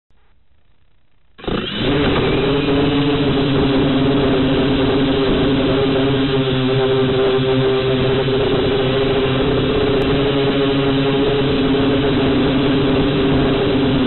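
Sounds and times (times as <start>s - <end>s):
quadcopter motors humming: 1.4s - 14.0s.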